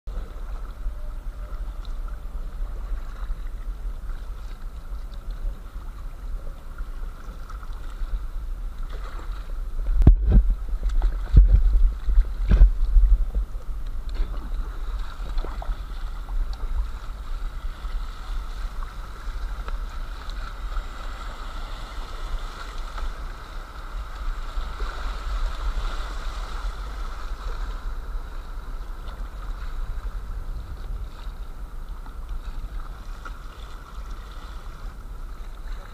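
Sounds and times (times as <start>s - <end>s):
low microphone rumble: 0.1s - 35.9s
river water rushing and splashing: 0.4s - 35.9s.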